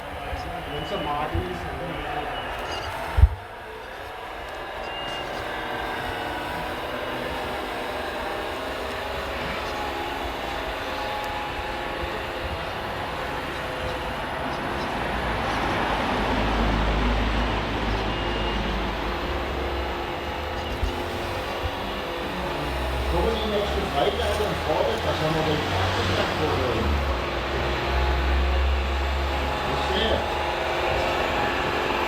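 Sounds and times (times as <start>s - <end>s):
model vehicle motors whining: 0.5s - 32.0s.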